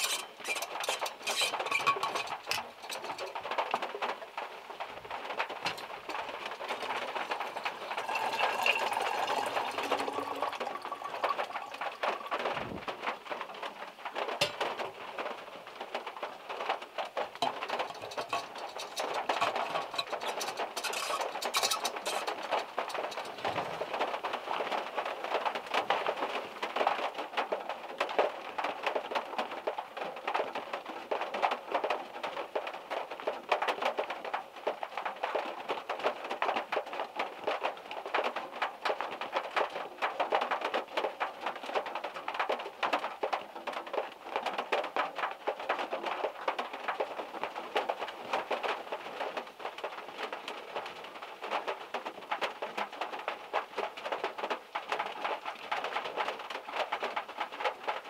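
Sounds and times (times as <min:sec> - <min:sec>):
heavy rain on car roof: 0:01.5 - 0:58.0.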